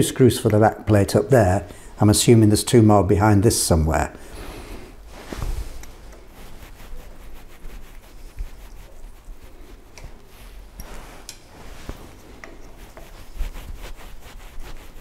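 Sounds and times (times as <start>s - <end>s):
hand rubbing and handling noise: 0.0s - 15.0s.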